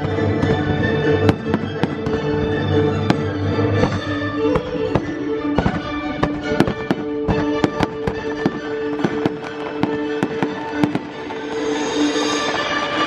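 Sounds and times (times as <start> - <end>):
fireworks bursting: 0.0 - 13.0
music with held notes: 0.0 - 13.0.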